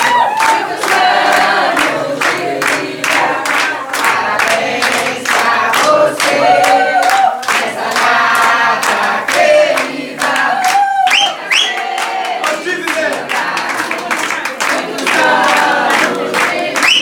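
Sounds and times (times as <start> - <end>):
group singing birthday song: 0.0 - 17.0
rhythmic clapping: 0.0 - 17.0.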